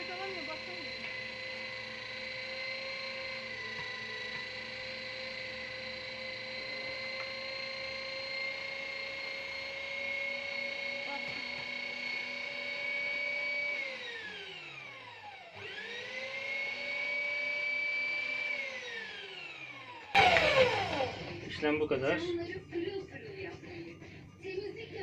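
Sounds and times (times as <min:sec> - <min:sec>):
meat grinder motor whining: 0:00.0 - 0:22.3.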